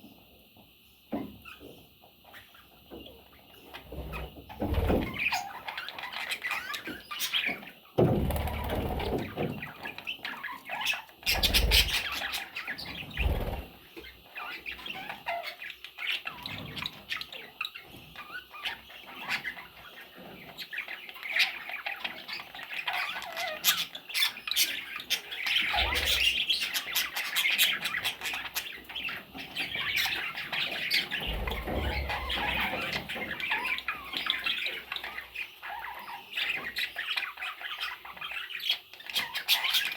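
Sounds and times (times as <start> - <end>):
budgerigars chattering and chirping: 1.4 - 39.9.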